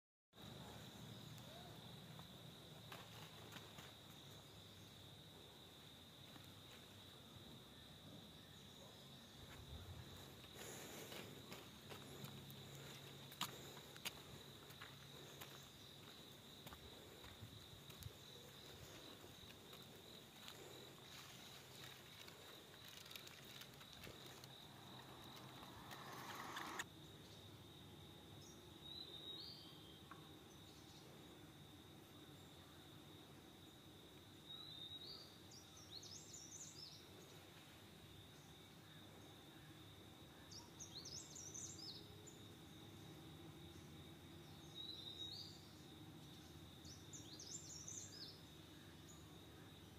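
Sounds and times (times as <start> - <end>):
insect drone: 0.4 - 49.9.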